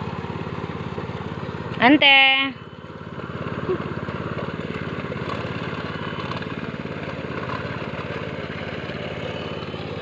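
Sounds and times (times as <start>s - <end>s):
hand tractor engine running: 0.0s - 10.0s.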